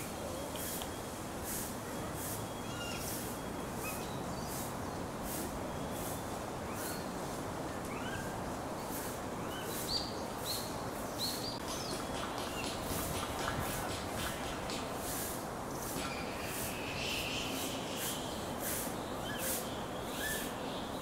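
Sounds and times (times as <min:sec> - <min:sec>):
faint pulsing high hiss: 0:00.0 - 0:21.0
outdoor background hiss: 0:00.0 - 0:21.0.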